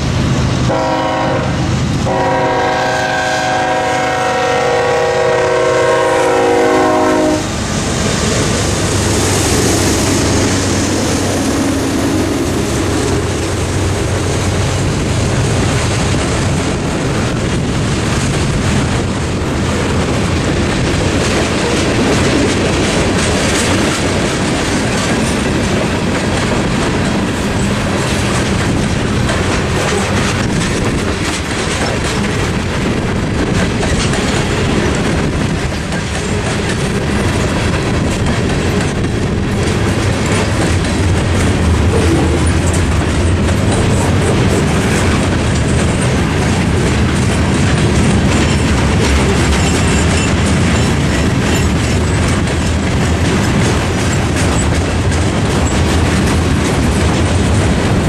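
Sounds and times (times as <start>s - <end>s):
freight train rumbling past: 0.0s - 58.0s
wheels clacking over rails: 5.0s - 58.0s.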